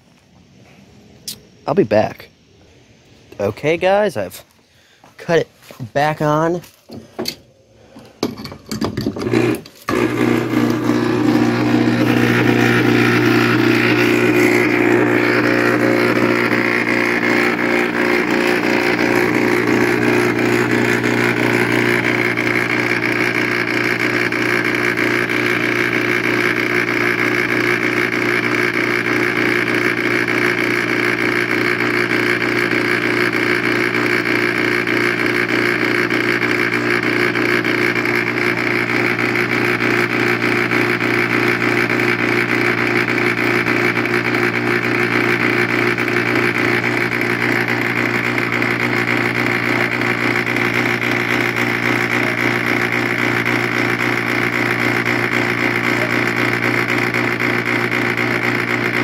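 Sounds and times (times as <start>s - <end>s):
air conditioner compressor buzzing hum: 0.0s - 59.0s.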